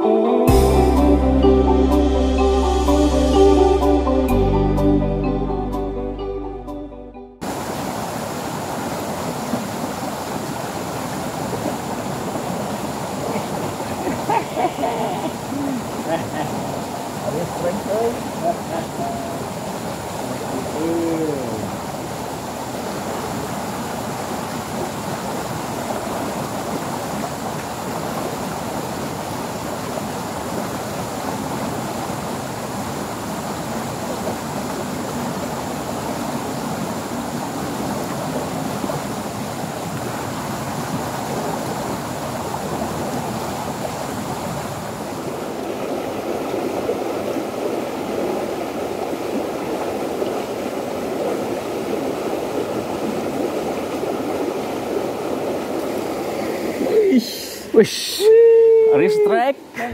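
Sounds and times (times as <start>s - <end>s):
stream water rushing: 7.4s - 59.9s.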